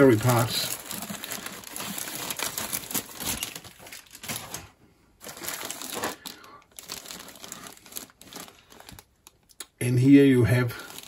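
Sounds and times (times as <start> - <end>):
plastic bags crinkling: 0.0 - 9.6, 10.5 - 11.0.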